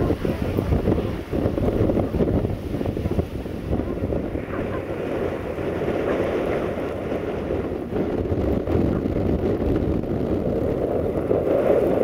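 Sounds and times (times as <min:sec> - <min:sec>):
blizzard wind buffeting microphone: 0:00.0 - 0:12.0.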